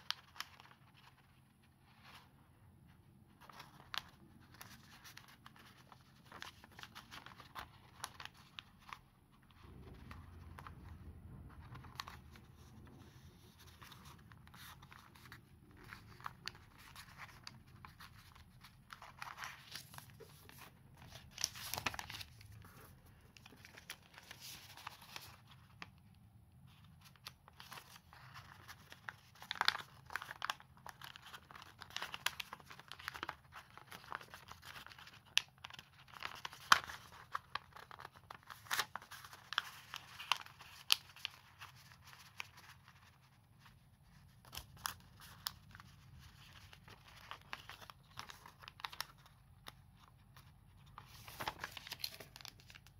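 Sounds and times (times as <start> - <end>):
paper crackles: 0.0 - 2.4, 3.3 - 52.9
paper rustling and crinkling: 0.0 - 52.9.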